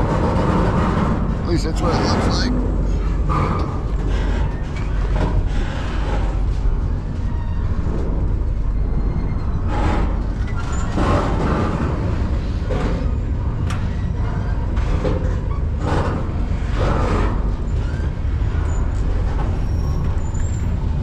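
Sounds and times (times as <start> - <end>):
freight train rumbling: 0.0 - 21.0.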